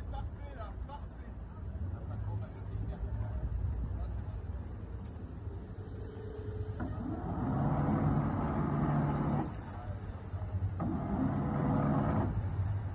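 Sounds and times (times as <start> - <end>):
boat engines rumbling: 0.0 - 12.9.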